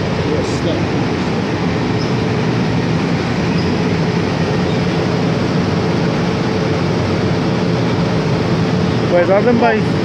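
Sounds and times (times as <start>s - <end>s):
constant rushing noise: 0.0s - 10.0s
train equipment humming: 0.0s - 10.0s.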